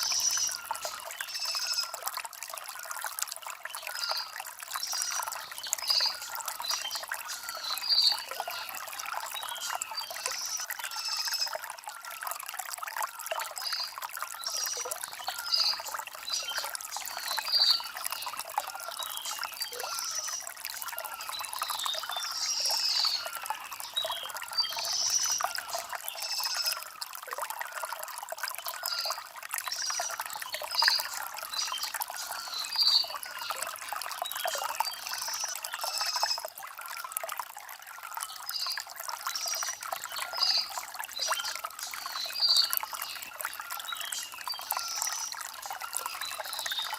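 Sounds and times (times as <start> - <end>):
stream babbling over stones: 0.0 - 46.9.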